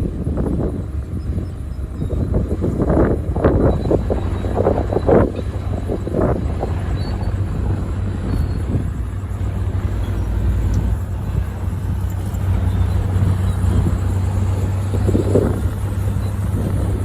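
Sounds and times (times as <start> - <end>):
heavy machinery engine hum: 0.0 - 17.0.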